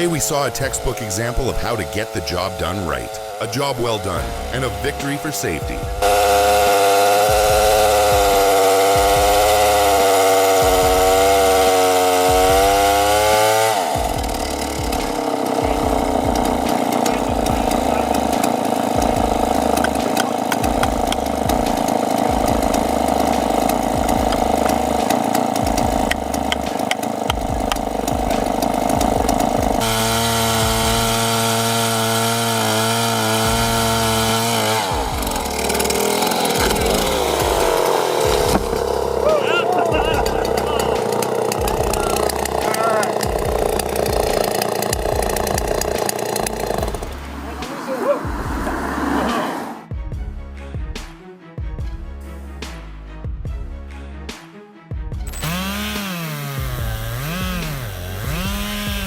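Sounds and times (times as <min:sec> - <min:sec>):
chainsaw cutting wood: 0:00.0 - 0:49.9, 0:55.3 - 0:59.0
chainsaw revving: 0:00.0 - 0:49.9, 0:55.3 - 0:59.0.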